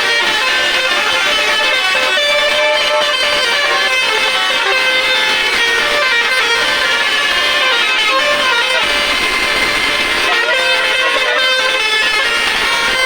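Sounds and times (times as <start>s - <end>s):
bus horns playing a tune: 0.0s - 13.0s
guitar-led music: 0.0s - 13.0s.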